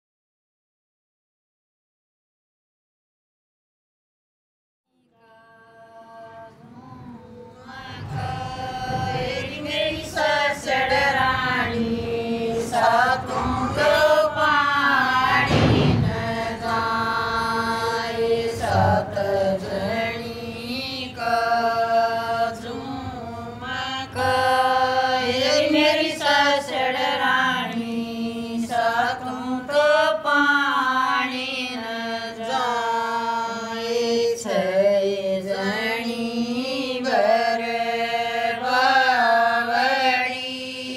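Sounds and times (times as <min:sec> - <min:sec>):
women singing unaccompanied: 0:04.9 - 0:40.9.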